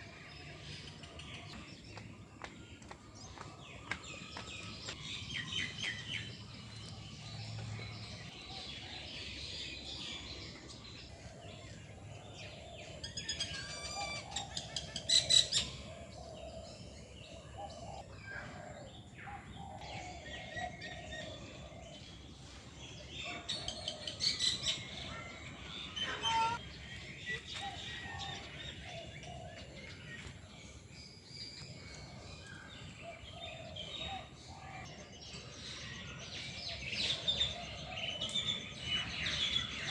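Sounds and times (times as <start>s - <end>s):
birds chirping and calling: 0.0s - 39.9s
rapid repeated bird calls: 0.0s - 39.9s.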